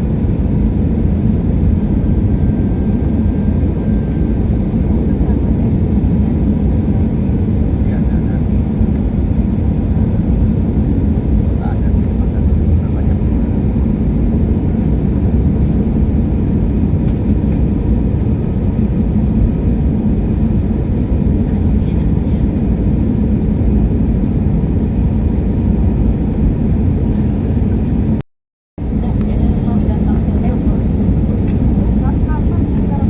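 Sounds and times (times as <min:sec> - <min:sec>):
airliner cabin engine rumble: 0:00.0 - 0:28.2, 0:28.8 - 0:33.0.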